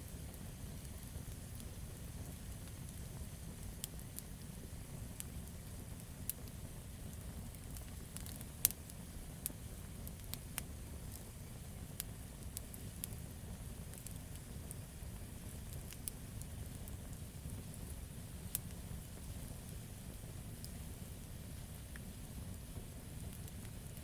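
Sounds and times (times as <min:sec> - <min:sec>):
campfire wood crackling: 0:00.0 - 0:24.0.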